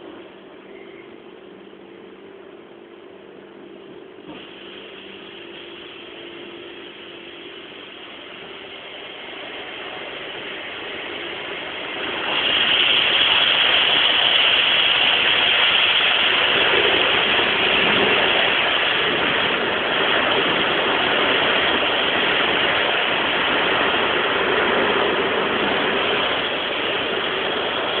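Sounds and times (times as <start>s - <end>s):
car-wash machine hum: 0.0s - 28.0s
loud rushing water on car: 4.3s - 28.0s.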